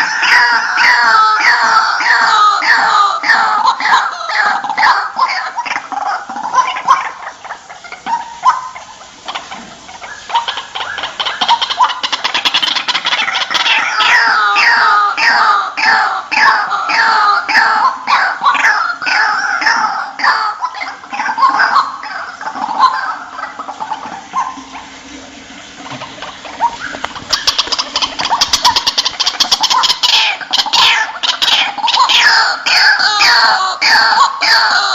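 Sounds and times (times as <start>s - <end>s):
waterhen calling: 0.0s - 34.9s.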